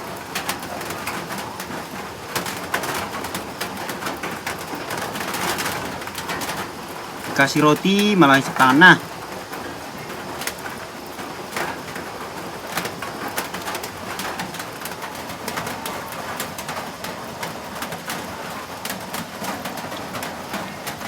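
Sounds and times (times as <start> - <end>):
steady rain with drips: 0.0 - 21.0.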